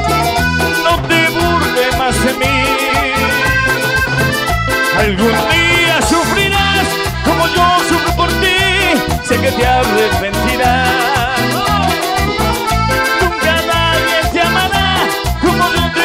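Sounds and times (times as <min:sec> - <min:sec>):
accordion-like lead melody: 0:00.0 - 0:16.0
pulsing bass: 0:00.0 - 0:16.0
steady dance beat: 0:02.5 - 0:09.1, 0:09.7 - 0:16.0.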